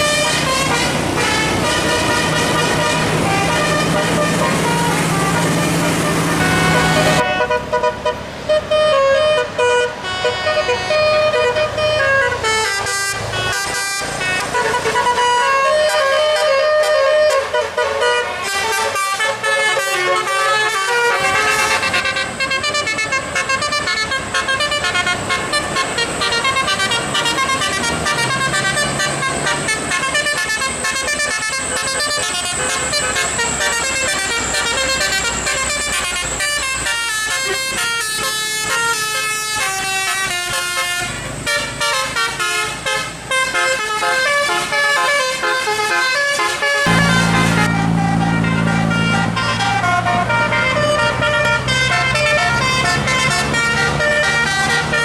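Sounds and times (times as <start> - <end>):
musical air horn melody: 0.0 - 55.0.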